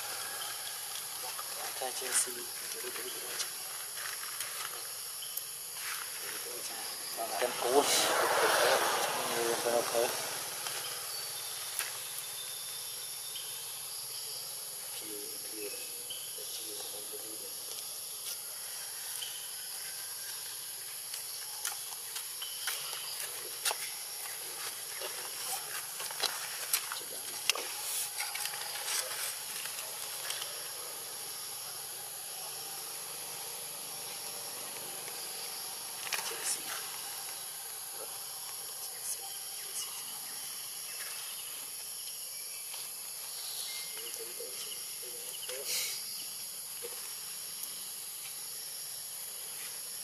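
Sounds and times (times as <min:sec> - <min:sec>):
high-pitched insect drone: 0:00.0 - 0:50.0.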